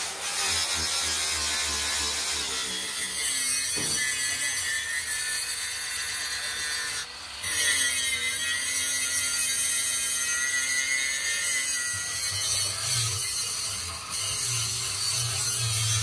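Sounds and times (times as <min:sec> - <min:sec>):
angle grinder whining: 0:00.0 - 0:16.0
sanding disc on steel: 0:00.0 - 0:16.0.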